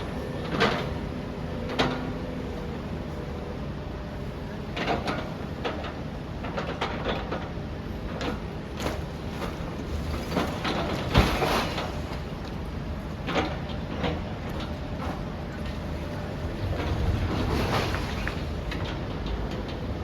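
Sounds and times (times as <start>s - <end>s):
demolition machinery rumble: 0.0s - 20.0s.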